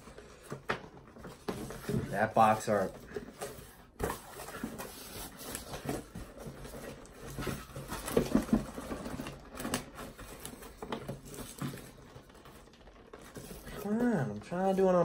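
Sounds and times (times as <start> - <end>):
cardboard rustling and scraping: 0.0 - 15.0.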